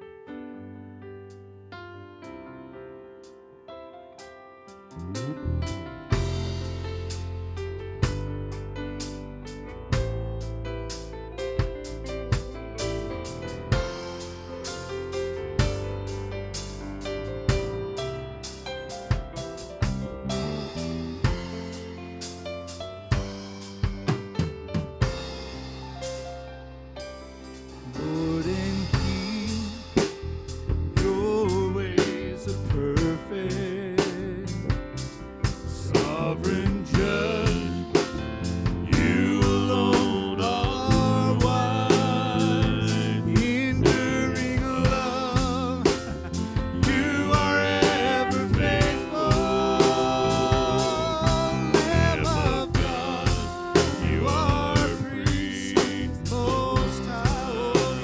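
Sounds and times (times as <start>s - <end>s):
guitar: 4.9s - 58.0s
praise band playing: 4.9s - 58.0s
drum kit beat: 5.1s - 58.0s.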